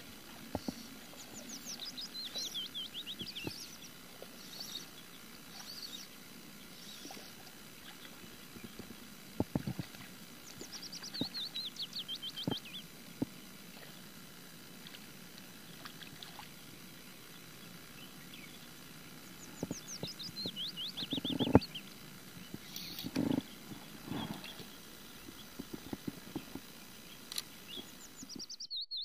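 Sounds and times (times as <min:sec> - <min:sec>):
songbird singing: 0:00.0 - 0:29.0
faint bird calls: 0:00.2 - 0:29.0.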